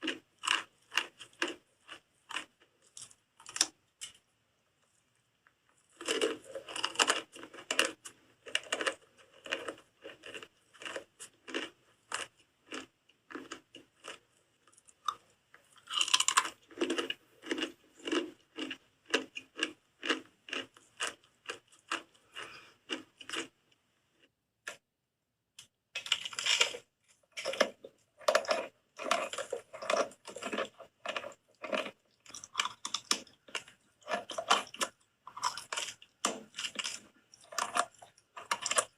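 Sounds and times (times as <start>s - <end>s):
soap being chewed crunching: 0.0s - 4.3s, 5.4s - 23.6s, 26.0s - 38.9s.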